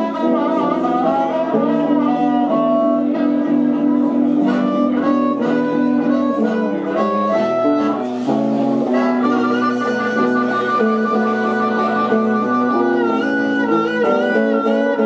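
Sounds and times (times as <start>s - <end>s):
guitar accompaniment: 0.0s - 15.0s
held melody notes: 0.0s - 15.0s
live band playing instrumental: 0.0s - 15.0s.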